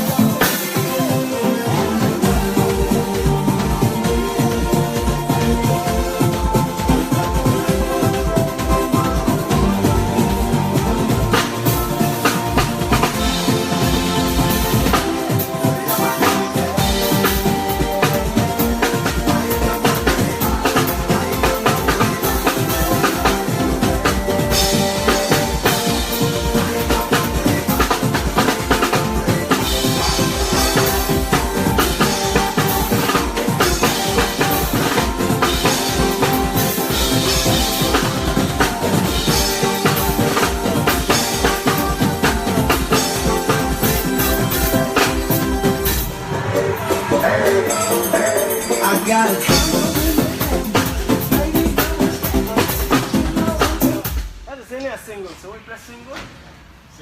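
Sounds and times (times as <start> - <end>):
live band playing: 0.0 - 54.8
drum kit beats: 0.0 - 55.3
low bass notes: 1.6 - 47.8.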